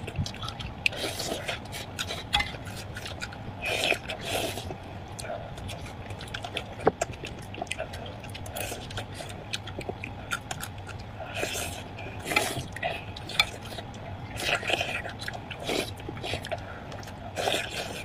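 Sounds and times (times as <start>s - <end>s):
chewing and slurping: 0.0s - 18.0s.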